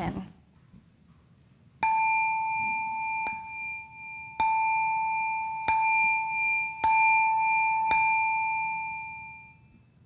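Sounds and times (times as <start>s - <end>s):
singing bowl ringing: 1.8s - 10.0s.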